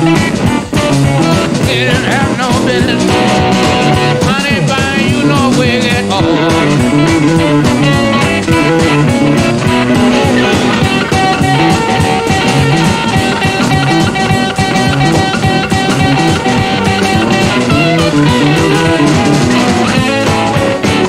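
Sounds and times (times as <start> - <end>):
bending electric guitar notes: 0.0 - 21.0
electric blues band playing: 0.0 - 21.0.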